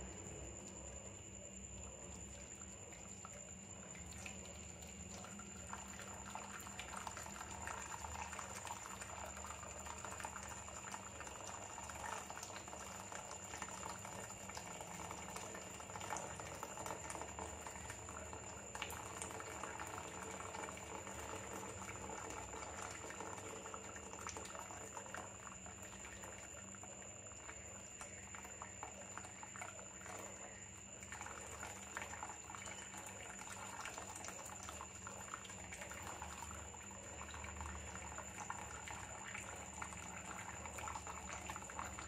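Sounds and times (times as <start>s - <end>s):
syrup fizzing and bubbling: 0.0s - 42.0s
syrup pouring into a pan: 2.8s - 42.0s.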